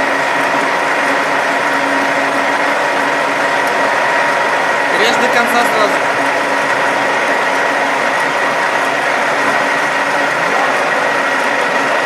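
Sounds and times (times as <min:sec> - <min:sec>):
high machine whine: 0:00.0 - 0:12.0
lathe running: 0:00.0 - 0:12.0.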